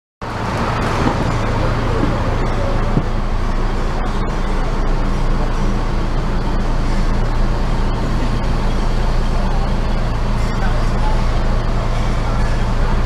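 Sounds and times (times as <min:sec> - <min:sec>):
diesel engine idling: 0:00.2 - 0:13.0.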